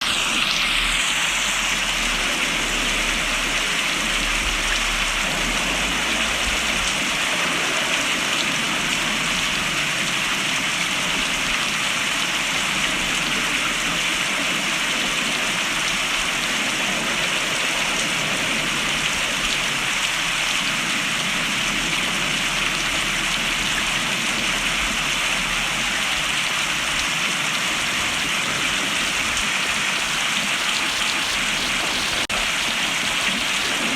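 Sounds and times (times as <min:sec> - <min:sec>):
heavy rain falling: 0:01.2 - 0:33.9.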